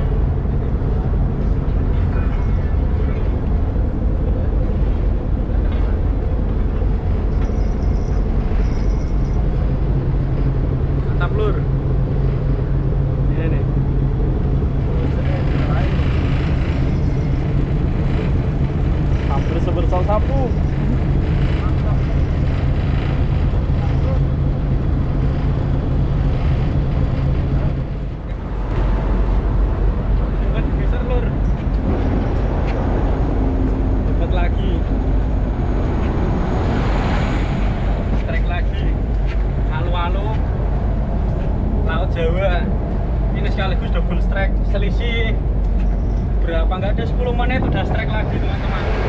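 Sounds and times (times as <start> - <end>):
water noise: 0.0 - 41.9
boat engine droning: 0.0 - 49.0
wind: 0.0 - 49.0.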